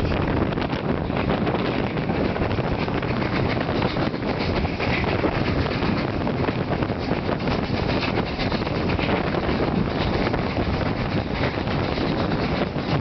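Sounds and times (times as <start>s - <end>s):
train running noise: 0.0s - 13.0s
wind buffeting microphone: 0.0s - 13.0s.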